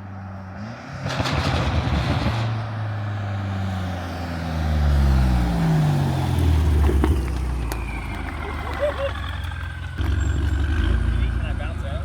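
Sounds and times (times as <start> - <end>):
car engine revving: 0.5 - 12.0.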